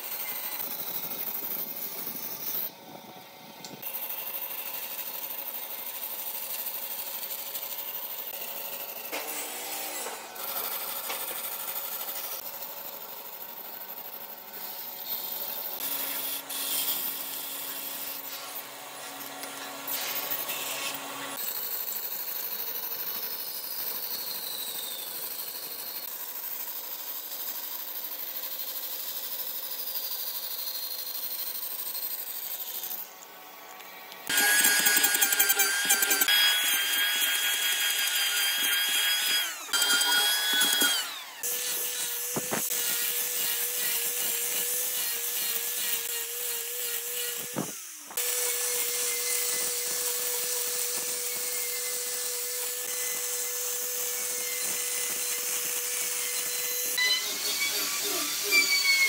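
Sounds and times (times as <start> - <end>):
power tools working wood: 0.0 - 26.2, 32.1 - 59.0.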